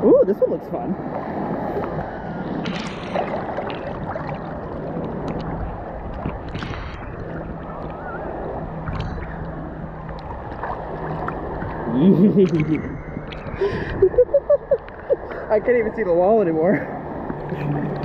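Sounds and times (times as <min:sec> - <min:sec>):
sea water sloshing and gurgling: 0:00.0 - 0:18.0
water splashes: 0:00.0 - 0:18.0.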